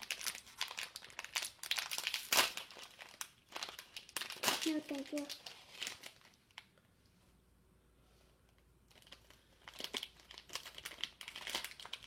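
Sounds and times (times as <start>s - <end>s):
packaging crinkling and rustling: 0.0s - 6.7s, 8.9s - 12.0s.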